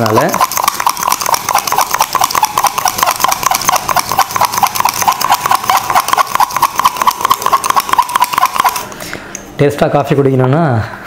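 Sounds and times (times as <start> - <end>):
metal spoon clinking against tumbler: 0.0 - 8.9.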